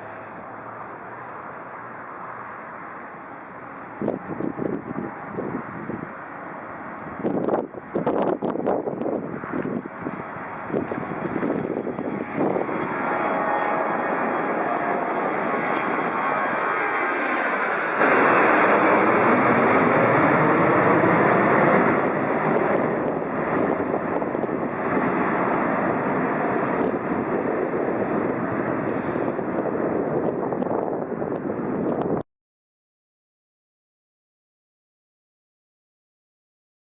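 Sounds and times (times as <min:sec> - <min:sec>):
jet airliner engines running: 0:00.0 - 0:32.2.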